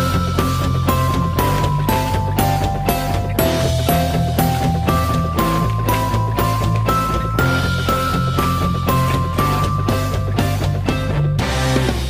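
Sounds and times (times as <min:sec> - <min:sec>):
background music with strong bass: 0:00.0 - 0:12.0.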